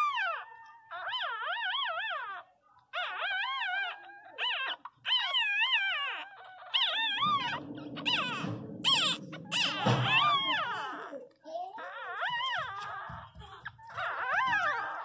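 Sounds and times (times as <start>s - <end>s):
puppies crying: 0.0s - 15.0s.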